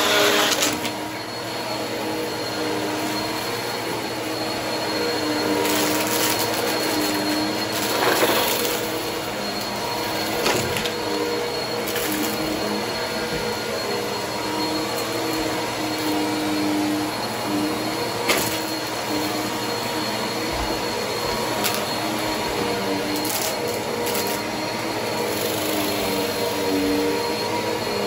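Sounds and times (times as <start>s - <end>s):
vacuum cleaner motors whining: 0.0s - 28.0s.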